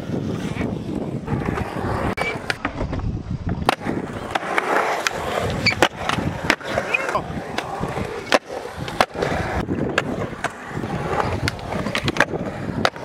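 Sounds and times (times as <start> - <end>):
skateboard wheels rolling on concrete: 0.0 - 13.0
skateboards clacking on concrete: 0.1 - 13.0.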